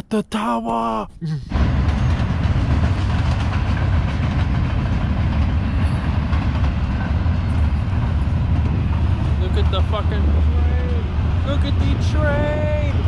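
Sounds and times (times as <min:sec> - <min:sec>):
train passing: 0:01.5 - 0:13.0.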